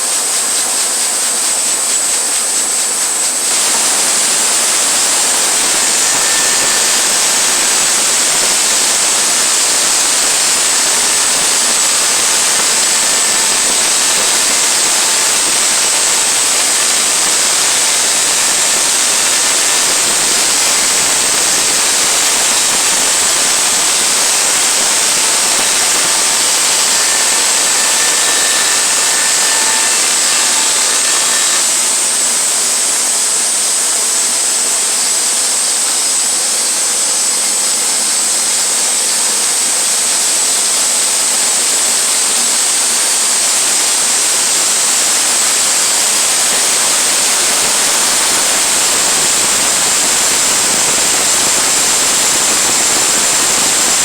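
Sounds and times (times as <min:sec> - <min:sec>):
faint machine whine: 0:00.0 - 0:54.0
sawmill steady hissing: 0:00.0 - 0:54.0.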